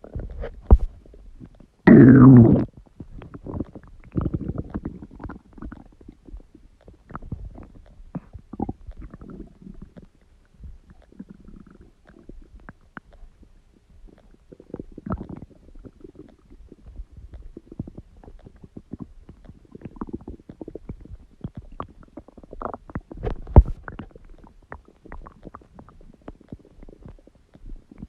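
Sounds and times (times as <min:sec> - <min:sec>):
stomach gurgling and growling: 0:00.0 - 0:28.0.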